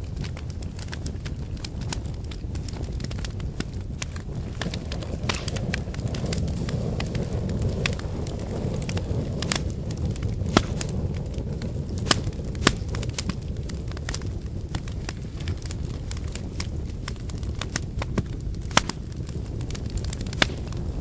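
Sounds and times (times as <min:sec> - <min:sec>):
fire crackling and popping: 0:00.0 - 0:21.0
fire roaring: 0:00.0 - 0:21.0.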